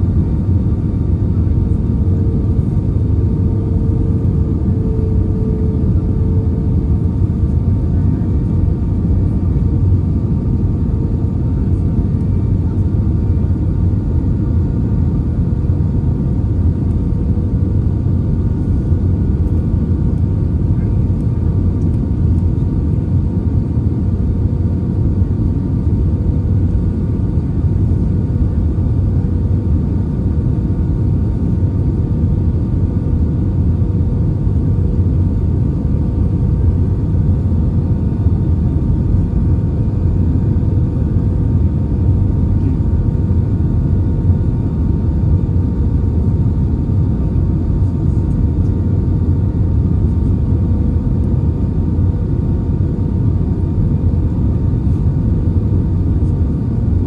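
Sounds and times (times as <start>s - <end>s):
faint steady hum: 0.0s - 57.0s
jet engine and airflow rumble: 0.0s - 57.0s.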